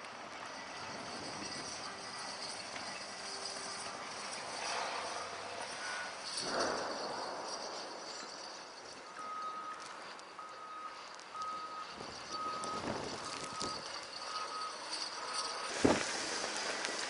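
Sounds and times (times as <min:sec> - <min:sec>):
reversing alarm beeping: 0:00.3 - 0:17.0.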